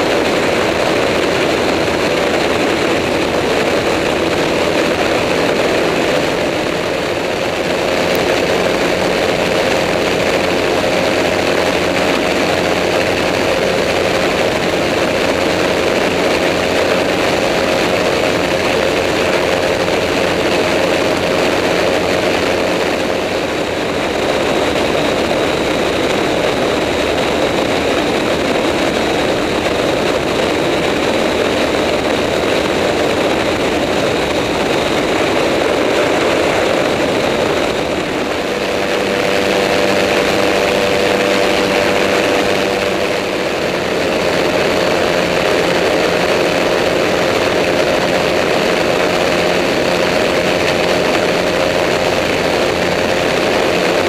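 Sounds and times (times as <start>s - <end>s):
ultralight engine and propeller: 0.0s - 54.0s.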